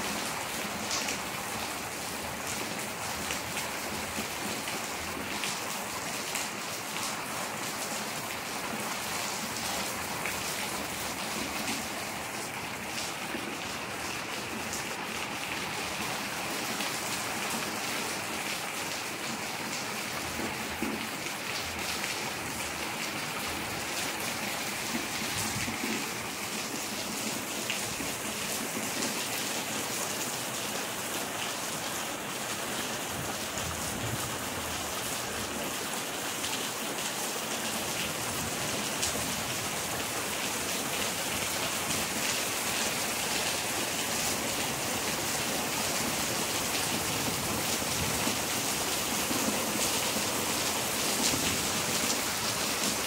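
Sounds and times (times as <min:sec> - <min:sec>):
rain on wet concrete: 0:00.0 - 0:53.0.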